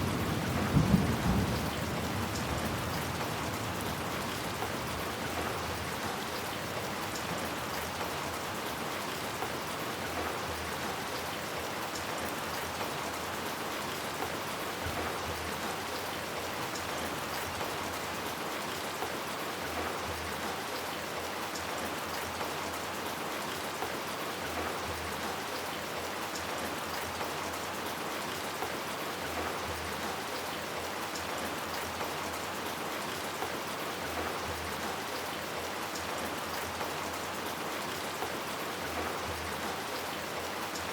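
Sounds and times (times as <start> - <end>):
rain on hard surfaces: 0.0 - 40.9.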